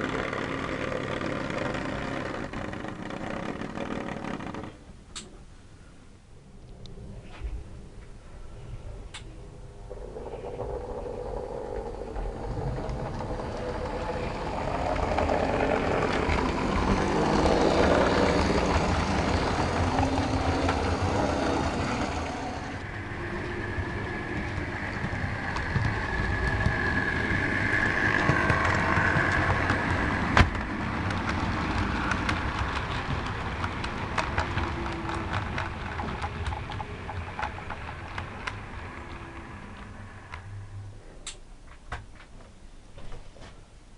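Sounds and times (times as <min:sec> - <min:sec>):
model train running with whine: 0:00.0 - 0:04.8, 0:09.8 - 0:40.7
wheels ticking over rail joints: 0:00.0 - 0:05.3, 0:09.1 - 0:40.6.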